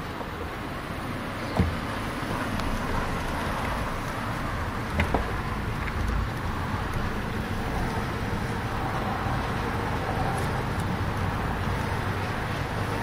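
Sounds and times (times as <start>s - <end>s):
bicycle rolling on asphalt: 0.0s - 13.0s.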